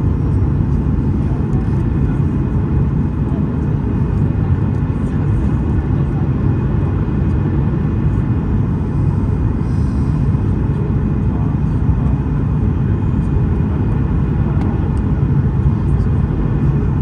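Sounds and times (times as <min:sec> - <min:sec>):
airliner cabin roar: 0:00.0 - 0:17.0.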